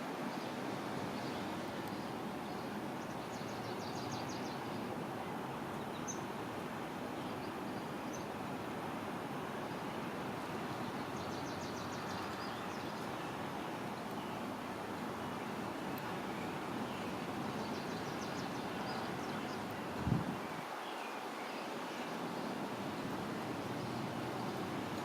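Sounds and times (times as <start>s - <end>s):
low even hiss: 0.0s - 25.0s.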